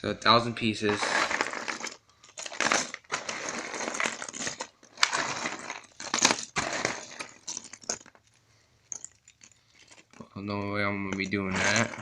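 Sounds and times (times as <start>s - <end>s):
puzzle box and packaging rustling: 0.3s - 12.0s.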